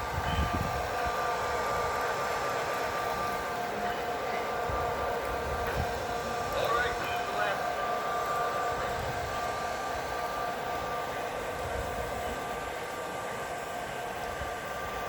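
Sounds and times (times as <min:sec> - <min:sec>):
high-pitched train whine: 0:00.0 - 0:15.0
train rumbling: 0:00.0 - 0:15.0.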